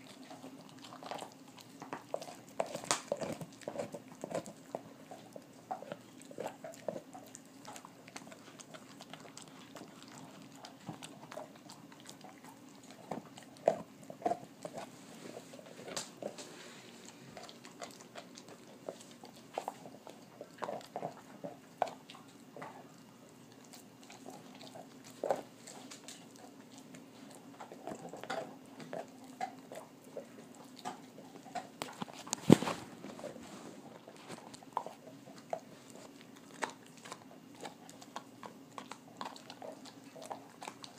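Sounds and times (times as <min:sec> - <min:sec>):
dog chewing on a bone: 0:00.0 - 0:40.9.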